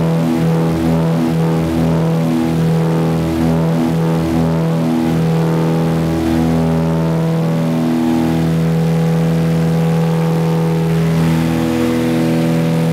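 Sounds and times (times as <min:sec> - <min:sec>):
propeller plane engine drone: 0:00.0 - 0:12.9.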